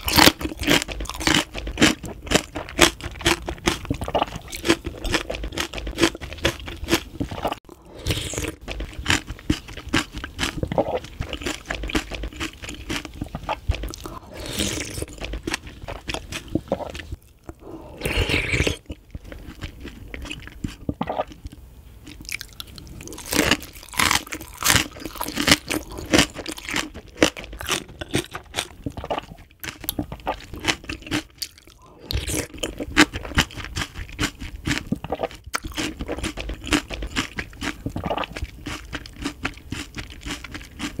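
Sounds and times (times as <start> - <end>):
close-up crunchy chewing: 0.0 - 41.0.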